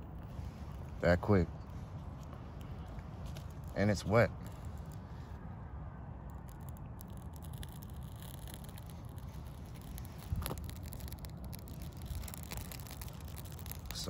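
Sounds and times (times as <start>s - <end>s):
small fire crackling: 0.0s - 14.0s
wind rumble on microphone: 0.0s - 14.0s.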